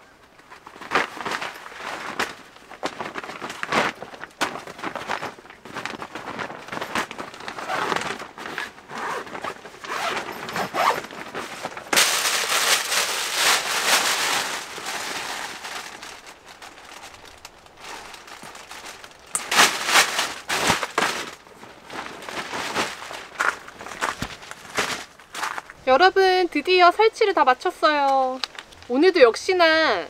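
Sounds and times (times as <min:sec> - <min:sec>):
tent fabric rustling: 0:00.5 - 0:26.9.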